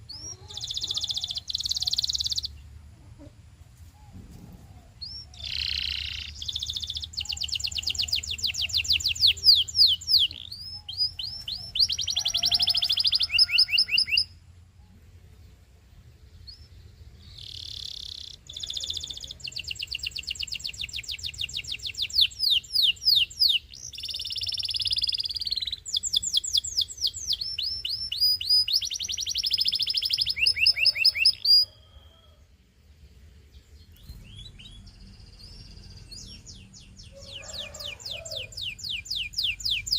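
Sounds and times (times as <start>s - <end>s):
canary singing trills: 0.0s - 3.3s, 4.8s - 14.4s, 16.3s - 32.4s, 33.4s - 39.9s.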